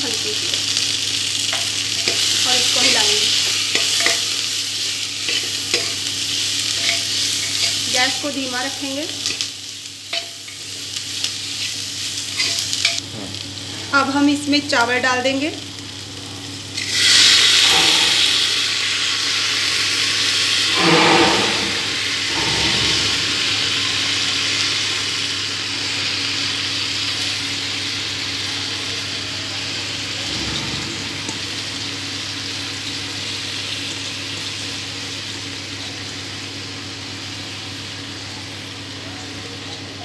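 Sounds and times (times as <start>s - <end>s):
vegetables sizzling: 0.0s - 40.0s.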